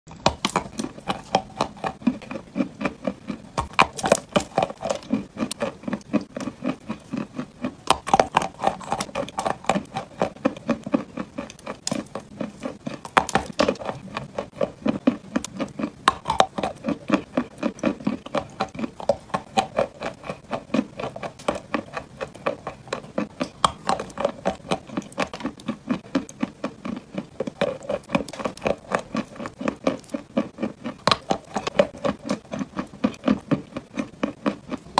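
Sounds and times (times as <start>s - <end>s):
clay being chewed crunching: 0.2s - 34.9s.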